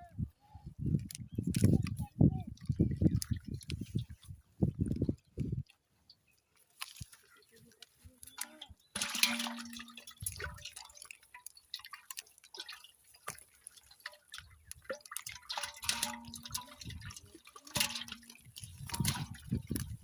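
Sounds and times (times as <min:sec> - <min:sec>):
water splashing and dripping: 0:01.0 - 0:05.1, 0:06.8 - 0:20.0.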